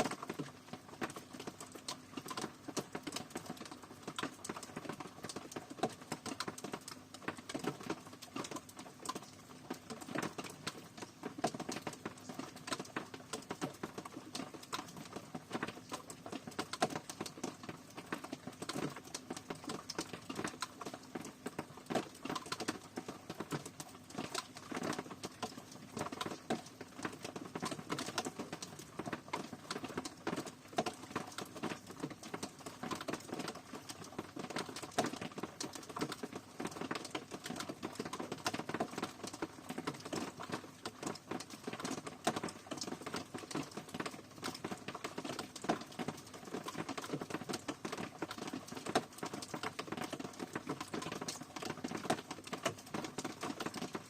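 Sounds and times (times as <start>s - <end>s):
raindrops tapping on a surface: 0.0s - 54.0s.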